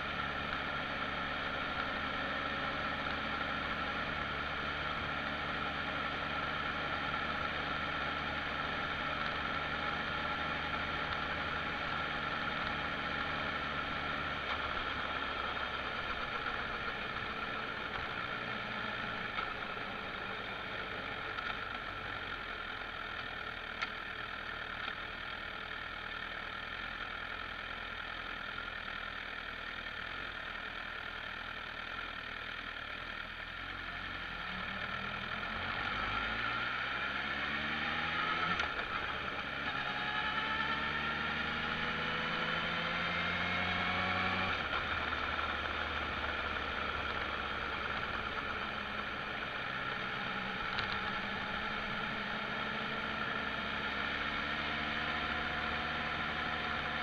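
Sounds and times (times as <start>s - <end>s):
motorcycle engine accelerating: 0.0s - 27.5s, 33.0s - 57.0s.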